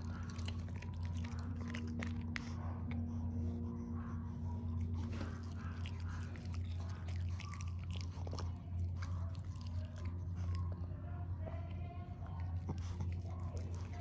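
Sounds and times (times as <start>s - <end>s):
dog chewing and crunching: 0.0s - 3.4s, 4.5s - 14.0s
low hum: 0.0s - 14.0s.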